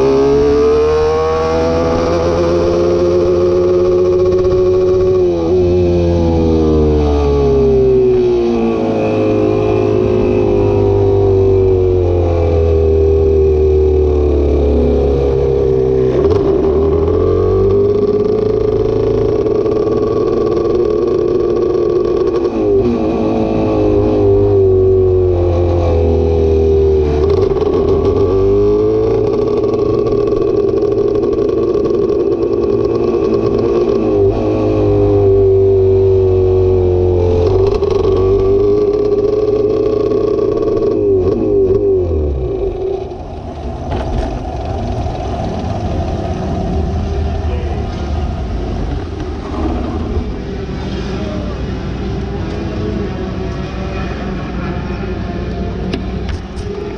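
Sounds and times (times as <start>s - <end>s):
vehicle engine revving: 0.0s - 56.9s.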